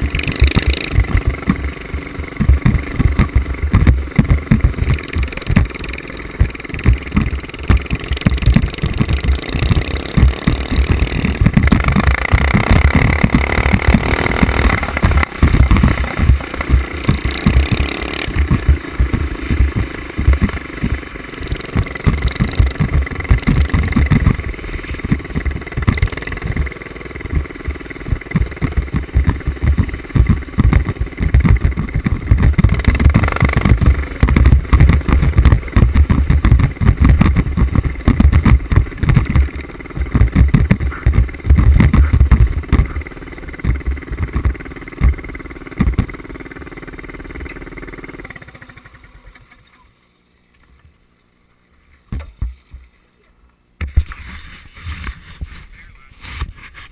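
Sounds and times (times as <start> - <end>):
mini bike engine revving: 0.0 - 50.0, 53.8 - 56.9.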